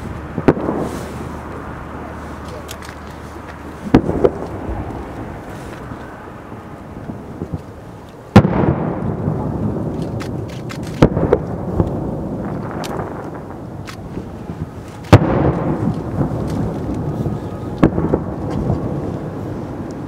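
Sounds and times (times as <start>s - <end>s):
firework shells bursting: 0.1s - 6.0s, 7.0s - 19.0s.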